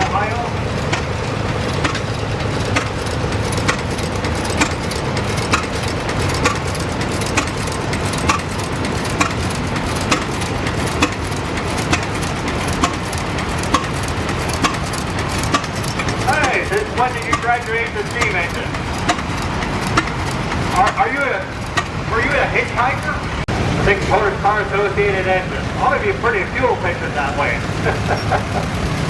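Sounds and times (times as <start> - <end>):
traction engine running: 0.0 - 29.0.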